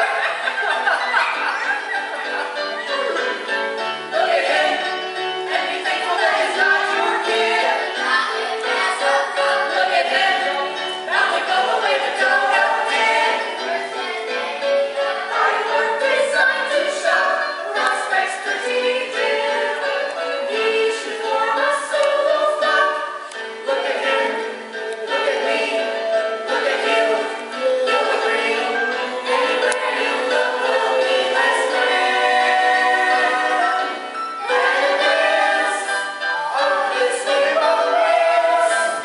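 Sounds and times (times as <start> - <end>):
instrumental accompaniment: 0.0 - 39.0
several voices singing together: 0.0 - 39.0.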